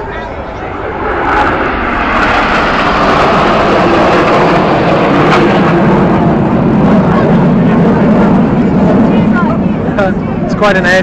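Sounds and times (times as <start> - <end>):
jet roar passing by: 0.0 - 11.0.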